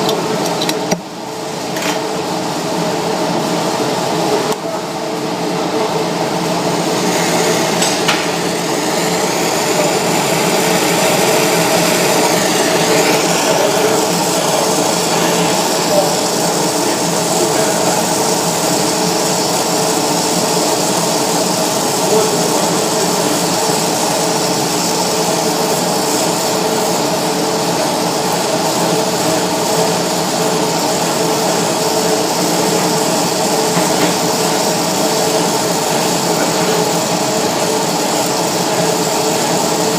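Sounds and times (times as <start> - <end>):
steady low hum: 0.0 - 39.9
welding torch hissing: 0.0 - 39.9.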